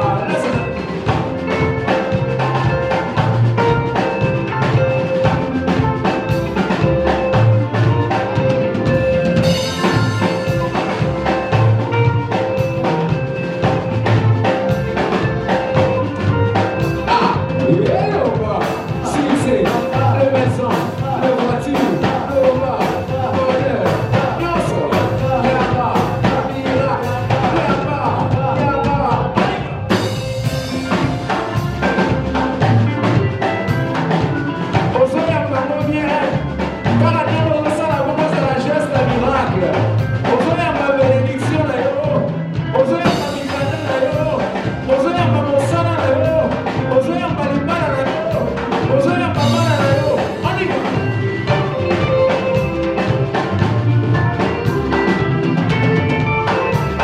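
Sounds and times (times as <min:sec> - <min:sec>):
drum kit beat: 0:00.0 - 0:57.0
live worship band music: 0:00.0 - 0:57.0.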